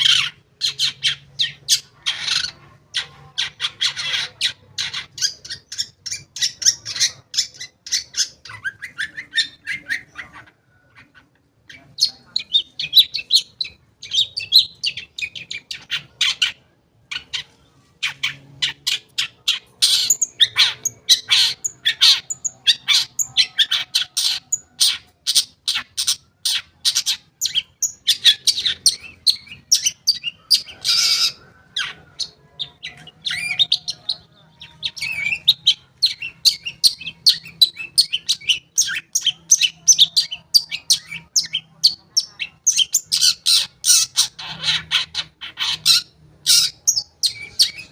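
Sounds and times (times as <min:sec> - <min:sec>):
bird chattering song: 0:00.0 - 0:47.9.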